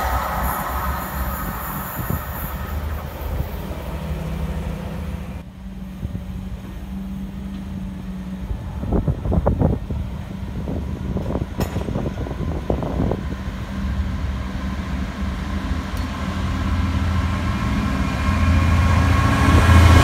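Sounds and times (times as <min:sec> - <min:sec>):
low drone: 0:00.0 - 0:20.0
train rumbling: 0:00.0 - 0:20.0.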